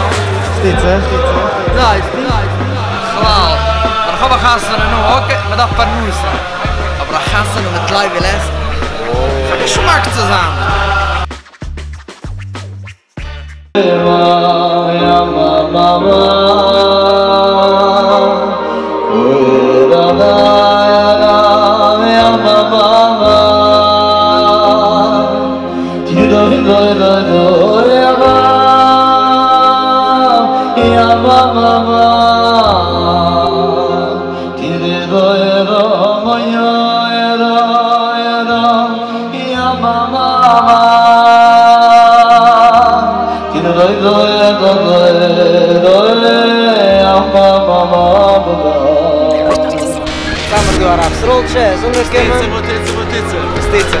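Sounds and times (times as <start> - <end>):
man singing into microphone: 0.0 - 11.3, 13.7 - 54.0
electronic keyboard accompaniment: 0.0 - 54.0.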